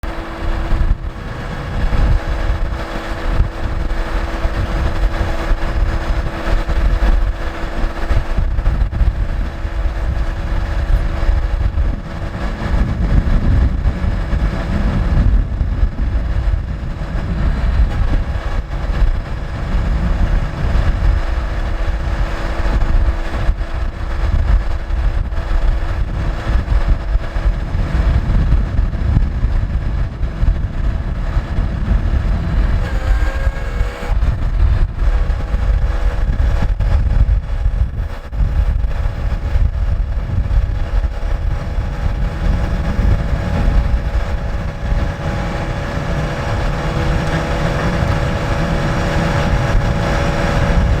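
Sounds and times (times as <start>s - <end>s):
diesel truck engine rumbling: 0.0s - 51.0s.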